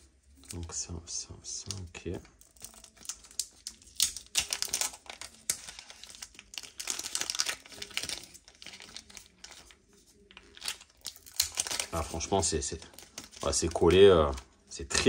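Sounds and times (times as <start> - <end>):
plastic film crinkling: 1.8 - 15.0.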